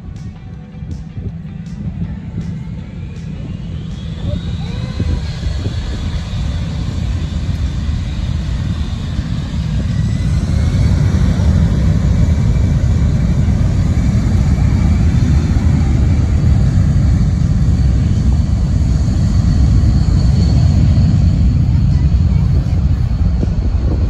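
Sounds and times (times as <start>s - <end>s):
jet engine rumble with whine: 0.0s - 24.0s.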